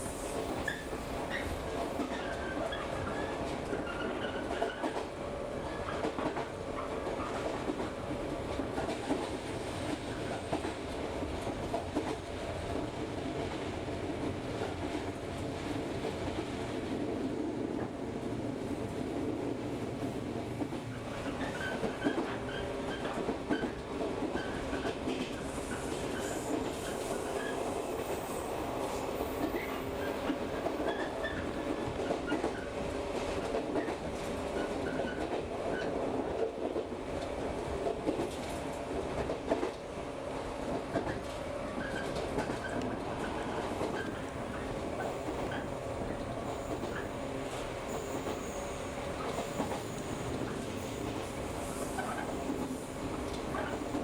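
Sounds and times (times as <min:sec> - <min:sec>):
train running noise: 0:00.0 - 0:54.0.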